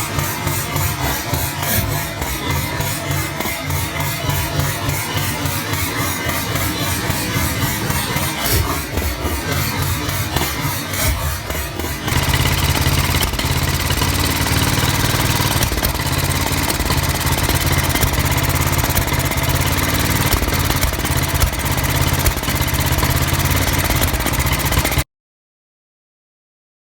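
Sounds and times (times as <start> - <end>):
engine backfires: 0.0 - 25.0
motorcycle engine running unevenly: 0.0 - 25.0.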